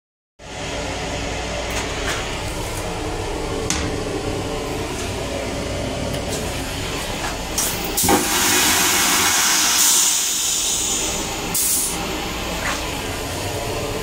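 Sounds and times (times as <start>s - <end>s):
ventilation hum: 0.4s - 14.0s.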